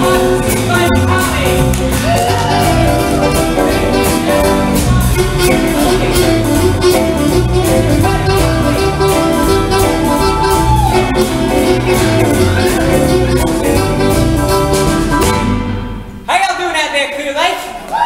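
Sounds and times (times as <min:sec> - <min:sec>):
drum kit beat: 0:00.0 - 0:16.3
live rock band playing: 0:00.0 - 0:16.3.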